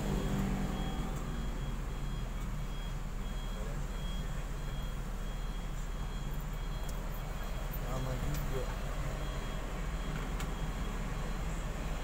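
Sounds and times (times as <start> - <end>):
high electronic warning beeps: 0.0 - 11.6
engines idling rumble: 0.0 - 12.0.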